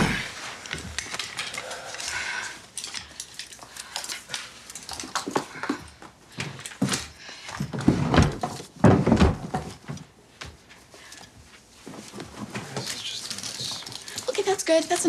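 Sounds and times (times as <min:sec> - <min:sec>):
clothes rustling and clattering: 0:00.0 - 0:15.0.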